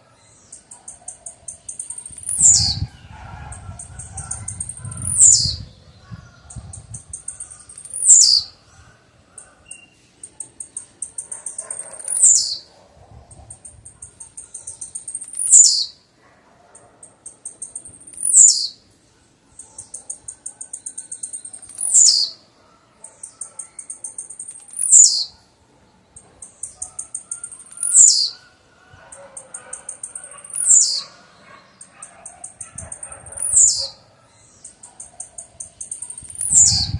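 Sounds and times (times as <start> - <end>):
bird singing high ticks: 0.4 - 2.9, 3.5 - 5.6, 6.4 - 8.5, 9.4 - 12.6, 13.3 - 16.0, 16.7 - 18.8, 19.6 - 22.4, 23.0 - 25.4, 26.1 - 28.4, 29.0 - 36.9.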